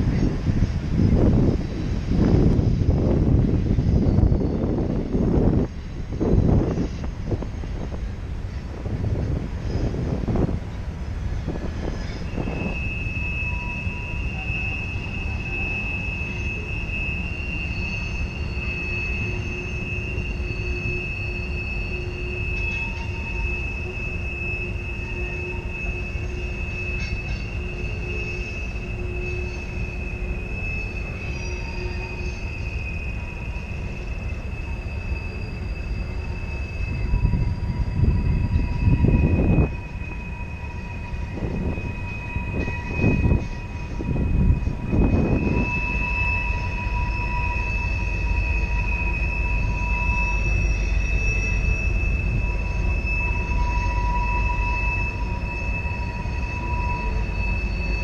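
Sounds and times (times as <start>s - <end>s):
rumble of wheels on rail: 0.0s - 58.0s
wheel flanges squealing: 0.0s - 58.0s.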